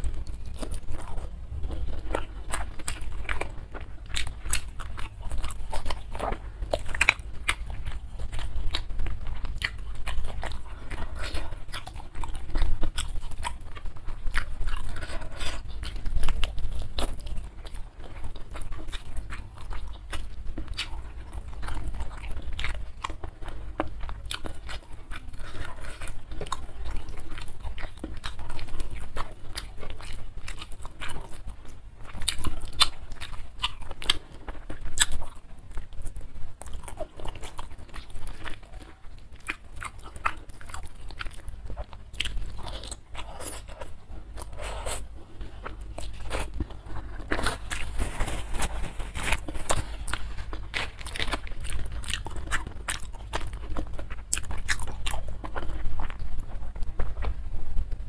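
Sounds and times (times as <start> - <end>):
chewing clicks and crunches: 0.0 - 58.0.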